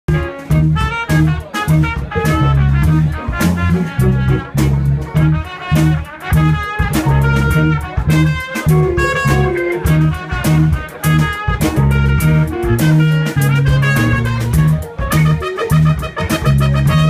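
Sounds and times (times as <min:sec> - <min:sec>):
drum kit: 0:00.1 - 0:17.0
electric guitar: 0:00.1 - 0:17.0
pulsing bass line: 0:00.1 - 0:17.0
trumpet and trombone: 0:00.1 - 0:17.0.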